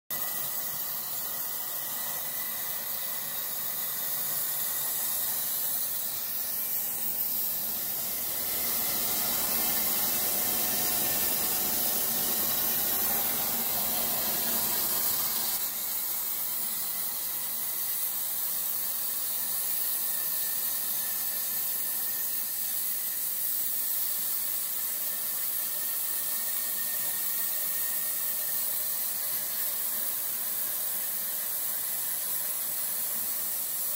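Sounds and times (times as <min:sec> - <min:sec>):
plasma torch hissing: 0:00.2 - 0:33.9.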